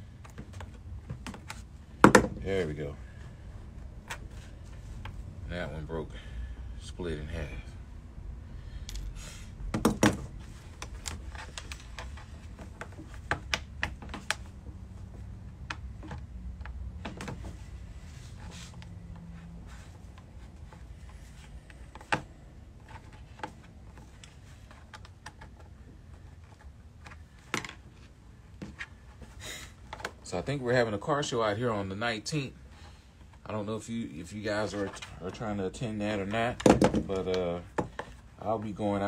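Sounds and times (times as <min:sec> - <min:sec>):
low room hum: 0:00.0 - 0:39.0.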